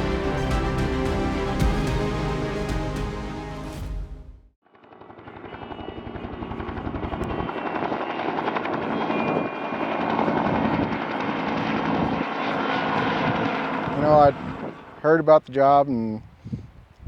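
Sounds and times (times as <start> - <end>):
helicopter rotor blades beating: 0.0 - 4.0, 4.8 - 15.3.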